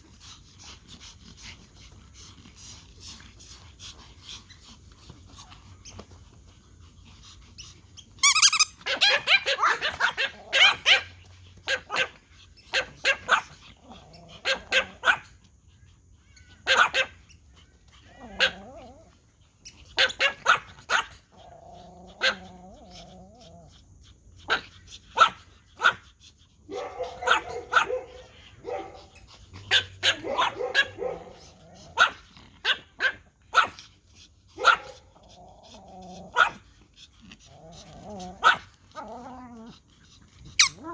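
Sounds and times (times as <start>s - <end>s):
small dogs yapping: 0.0s - 40.9s.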